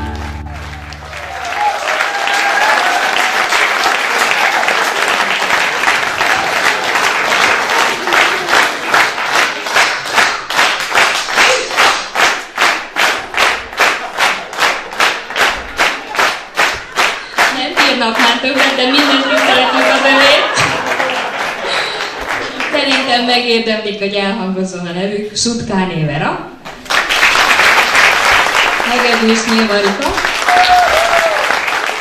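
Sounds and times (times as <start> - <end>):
audience applauding: 0.0 - 23.1, 26.7 - 32.0
rhythmic clapping in unison: 0.0 - 23.1, 26.6 - 32.0.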